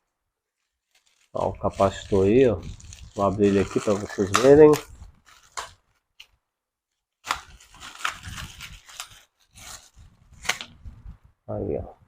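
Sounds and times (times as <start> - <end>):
packaging crinkling and rustling: 0.5 - 10.9.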